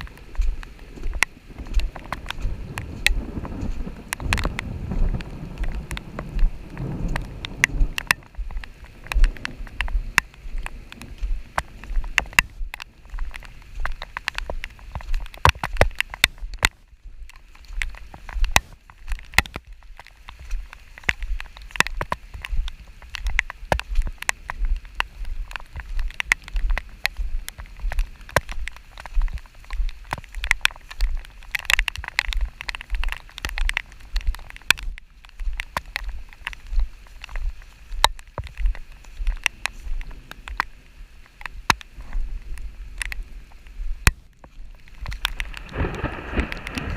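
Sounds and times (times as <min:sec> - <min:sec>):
rain drops tapping: 0:00.0 - 0:46.9.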